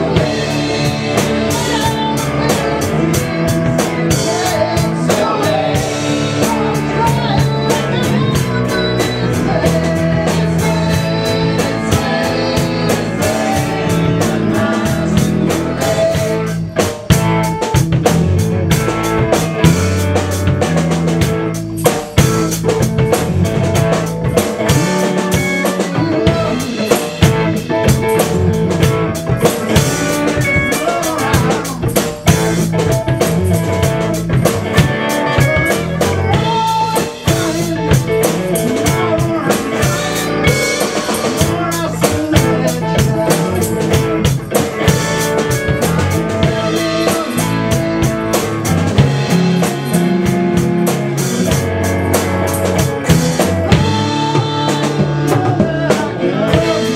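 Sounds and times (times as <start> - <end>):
band playing a song: 0.0 - 56.9
drum kit beat: 0.0 - 56.9
guitar: 0.0 - 56.9.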